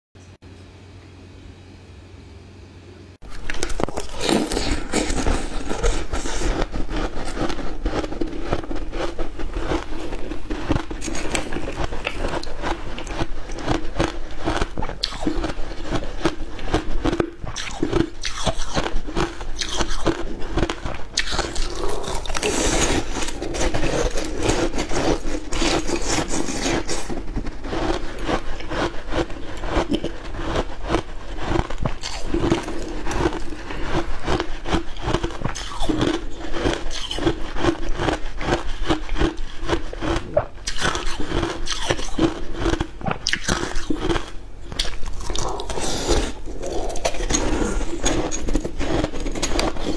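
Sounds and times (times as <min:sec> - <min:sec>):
person crunching ice: 0:03.2 - 0:49.9.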